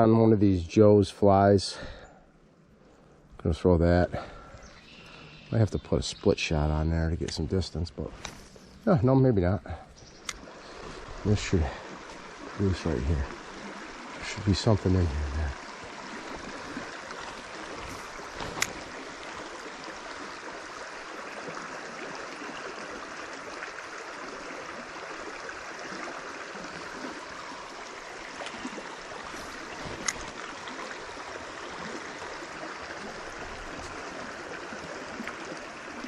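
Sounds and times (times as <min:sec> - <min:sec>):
creek water over rocks: 0:00.0 - 0:36.0.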